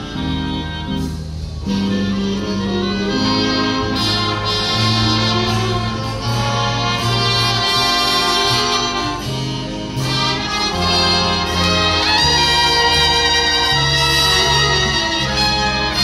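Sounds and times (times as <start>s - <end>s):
big band playing slow jazz: 0.0s - 16.0s.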